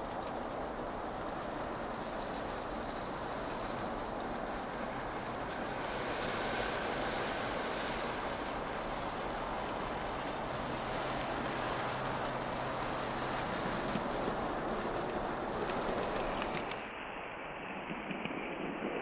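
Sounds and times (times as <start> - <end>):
model train rolling rattle: 0.0 - 16.9.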